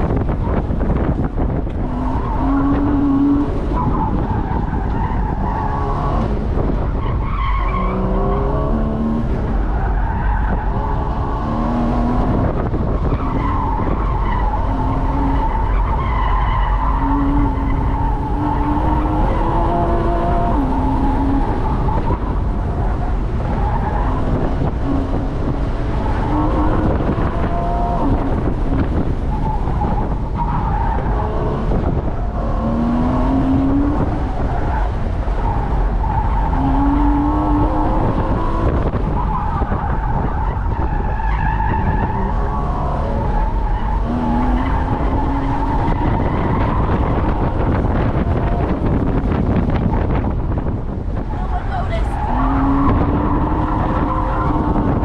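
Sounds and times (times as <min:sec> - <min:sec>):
car engine accelerating hard: 0:00.0 - 0:55.0
road and wind rumble: 0:00.0 - 0:55.0
tires squealing: 0:00.0 - 0:55.0.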